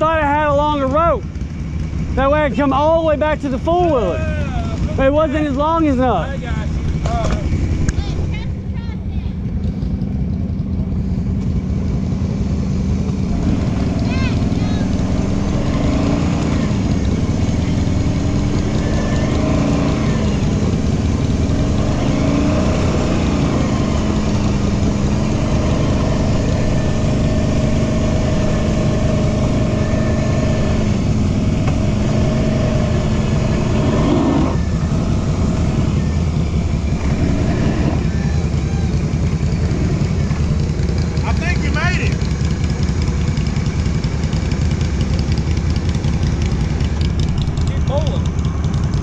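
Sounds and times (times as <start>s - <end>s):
off-road vehicle engine running: 0.0s - 49.0s.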